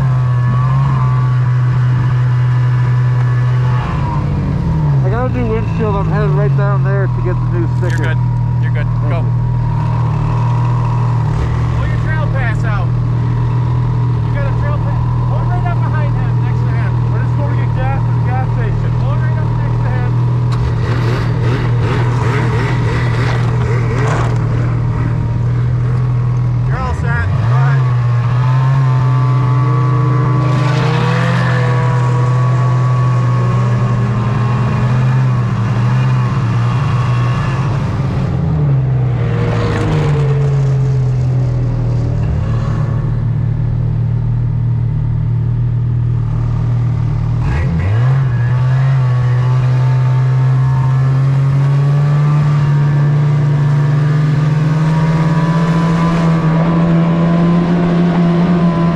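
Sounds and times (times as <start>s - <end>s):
snowmobile engine under throttle: 0.0s - 58.9s.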